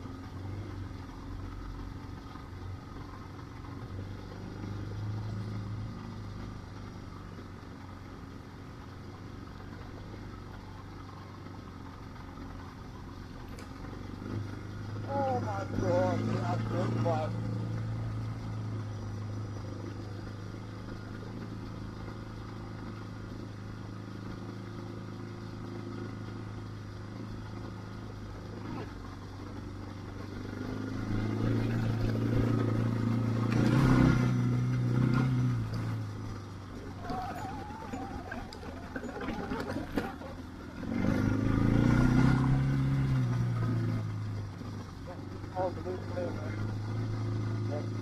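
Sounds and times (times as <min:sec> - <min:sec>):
motorcycle engine running: 0:00.0 - 0:48.0
tyres on wet gravel: 0:07.1 - 0:48.0.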